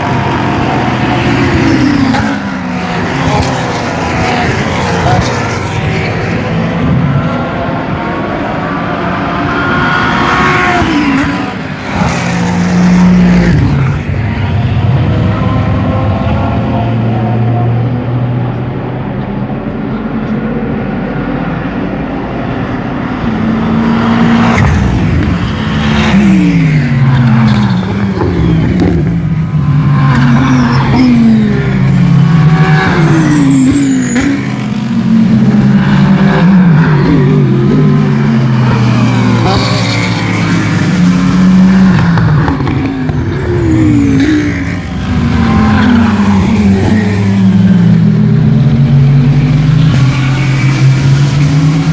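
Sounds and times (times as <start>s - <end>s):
race cars passing: 0.0s - 51.9s.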